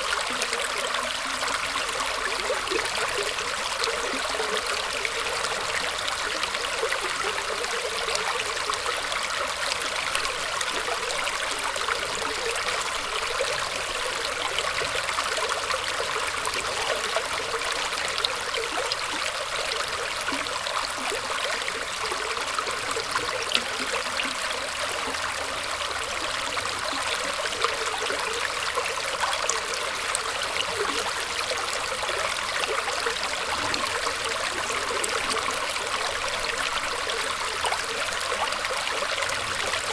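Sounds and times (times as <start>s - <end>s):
stream trickling and burbling: 0.0s - 39.9s.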